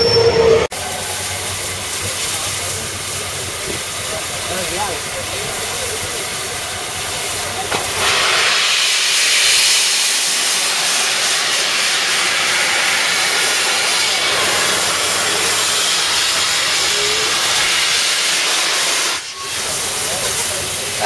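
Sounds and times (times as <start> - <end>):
steam locomotive hissing steam: 0.7 - 21.0.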